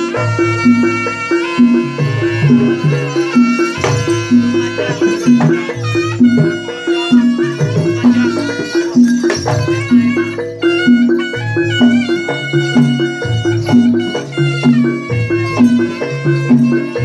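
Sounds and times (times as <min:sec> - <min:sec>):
drum strokes: 0:00.0 - 0:17.0
gong-chime notes: 0:00.0 - 0:17.0.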